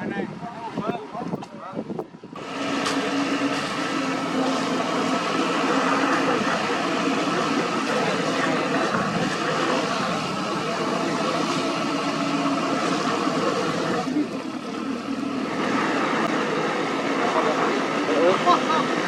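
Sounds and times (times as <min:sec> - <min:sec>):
road-paving machinery diesel engine: 0:00.0 - 0:19.0.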